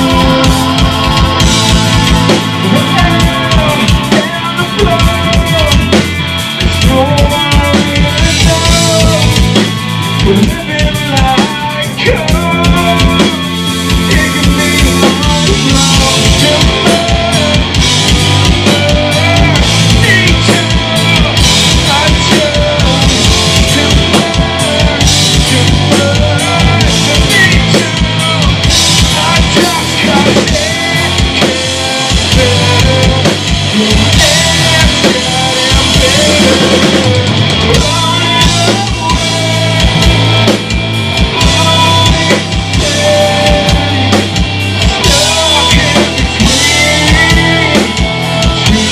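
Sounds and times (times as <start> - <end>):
bass guitar: 0.0 - 48.9
drum kit: 0.0 - 48.9
electric guitar: 0.0 - 48.9.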